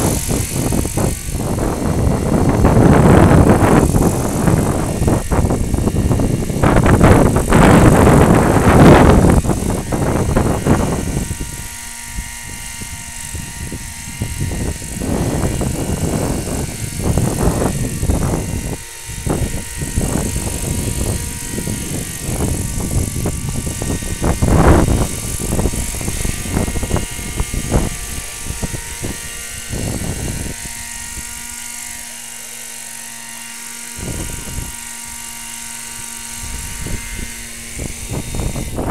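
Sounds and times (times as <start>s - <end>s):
wind buffeting microphone: 0.0s - 32.3s, 32.9s - 38.9s
model airplane engine droning: 0.0s - 38.9s.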